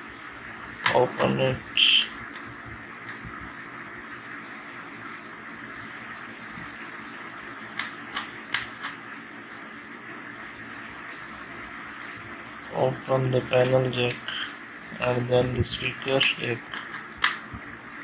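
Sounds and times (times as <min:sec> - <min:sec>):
room hiss: 0:00.0 - 0:18.0.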